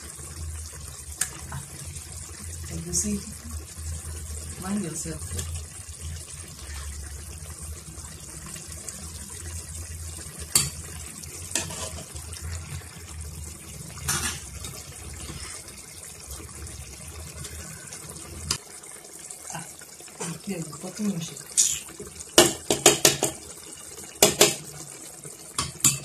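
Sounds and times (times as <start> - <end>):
soup simmering and bubbling: 0.0 - 26.0.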